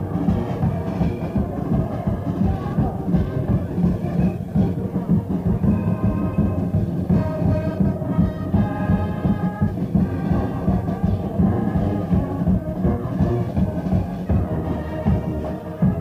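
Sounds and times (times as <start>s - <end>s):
brass chords: 0.0s - 16.0s
steady drum beat: 0.0s - 16.0s.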